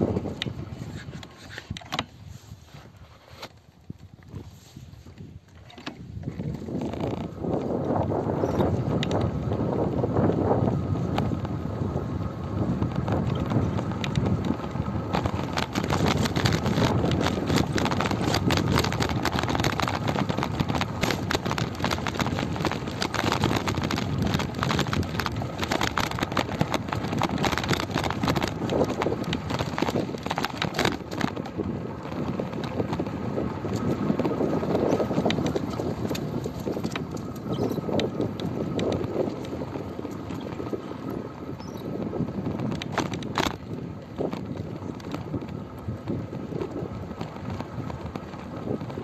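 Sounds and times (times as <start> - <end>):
wind on microphone: 0.0 - 49.0.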